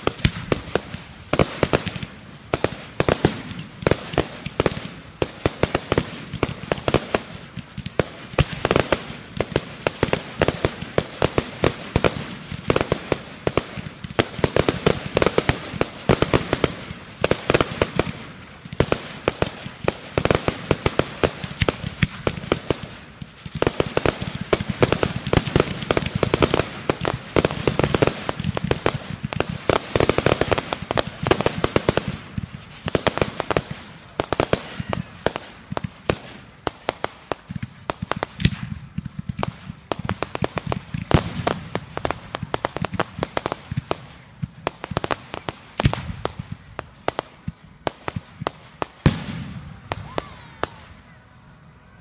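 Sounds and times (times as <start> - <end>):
fireworks cracking and banging: 0.0 - 51.1.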